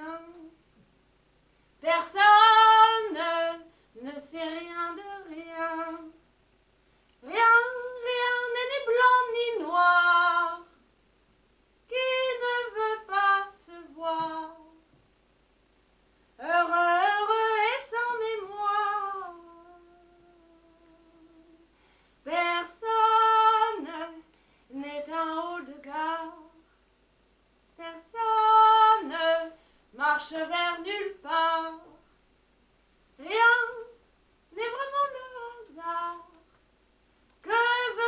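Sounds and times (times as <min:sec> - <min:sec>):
woman singing unaccompanied: 0:00.0 - 0:00.6, 0:01.8 - 0:06.3, 0:07.2 - 0:10.8, 0:11.8 - 0:14.9, 0:16.4 - 0:26.7, 0:27.7 - 0:32.1, 0:33.2 - 0:36.6, 0:37.3 - 0:38.0.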